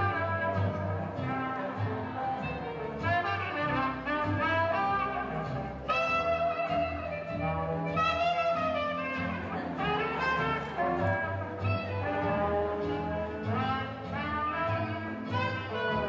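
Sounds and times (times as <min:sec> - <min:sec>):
swing jazz with brass horns: 0:00.0 - 0:16.0.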